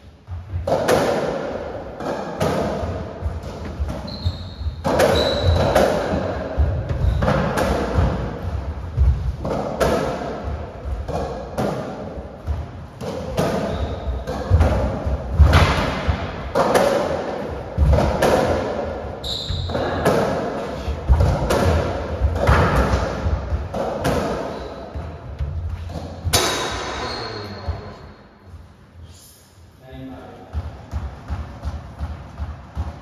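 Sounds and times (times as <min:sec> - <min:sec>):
racquetball hits echoing: 0:00.2 - 0:28.3, 0:30.4 - 0:33.0.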